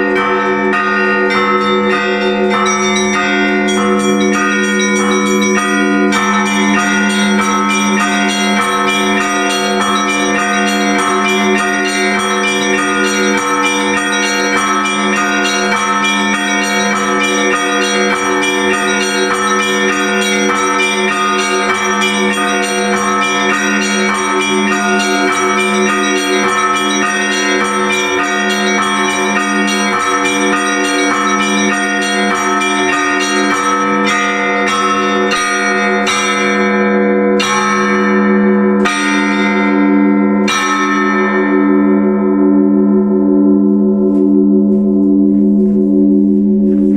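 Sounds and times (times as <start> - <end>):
large bell humming: 0.0 - 46.9
small church bells striking: 0.0 - 46.9.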